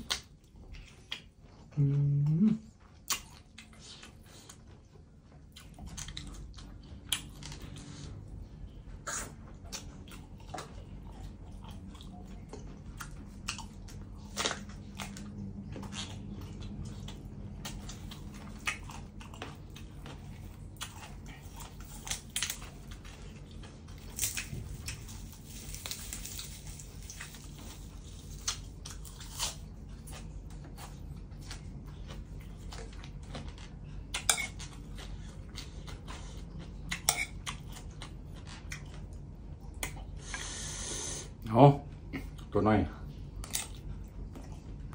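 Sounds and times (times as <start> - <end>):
chewing with crunches: 0.0 - 44.9
low hum: 0.0 - 44.9.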